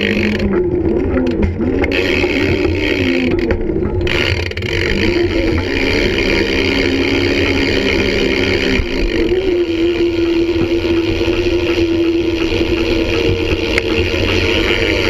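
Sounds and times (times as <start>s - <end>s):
wheels rolling over concrete: 0.0s - 15.0s.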